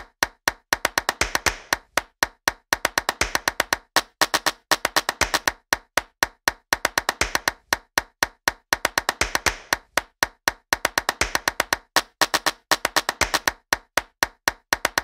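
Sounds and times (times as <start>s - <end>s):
sharp clap-like clicks: 0.0s - 15.0s.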